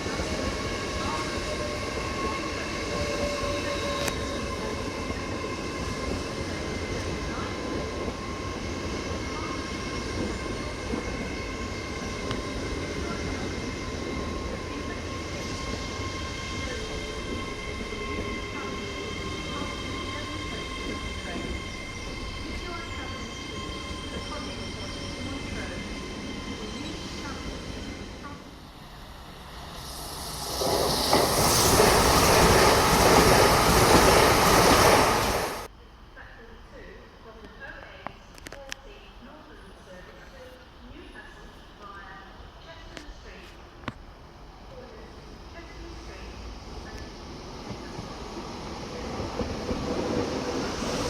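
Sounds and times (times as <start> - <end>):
train engine rumbling: 0.0 - 51.0.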